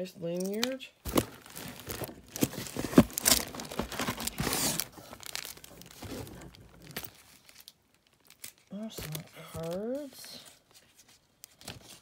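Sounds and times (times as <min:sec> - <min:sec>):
packaging crinkling: 0:01.0 - 0:12.0.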